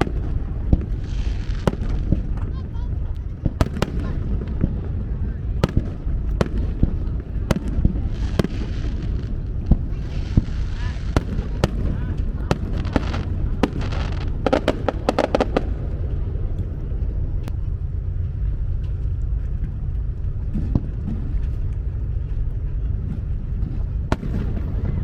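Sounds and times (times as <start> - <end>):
fireworks crackling: 0.0 - 22.1, 23.0 - 25.0
low rumble: 0.0 - 25.0.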